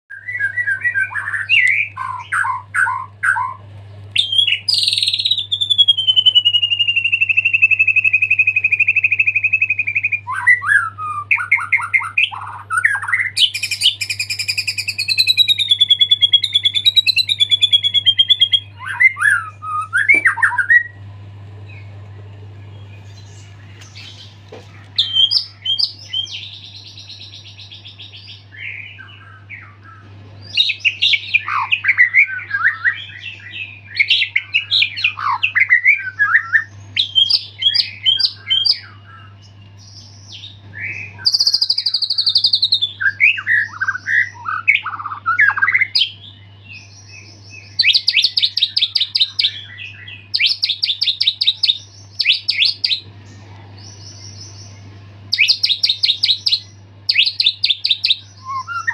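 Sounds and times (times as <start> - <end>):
songbird singing: 0.1 - 58.9.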